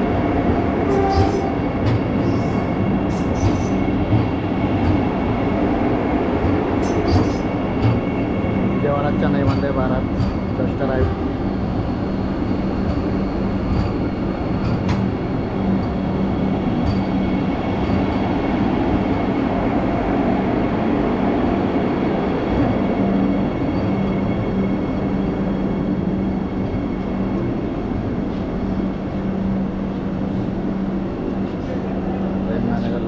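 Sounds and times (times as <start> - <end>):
train rolling past rumbling: 0.0 - 33.0.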